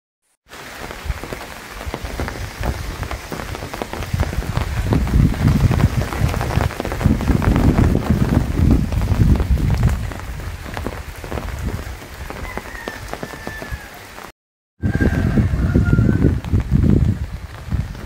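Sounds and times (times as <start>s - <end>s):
rain falling on leaves: 0.4s - 14.3s, 15.0s - 18.0s.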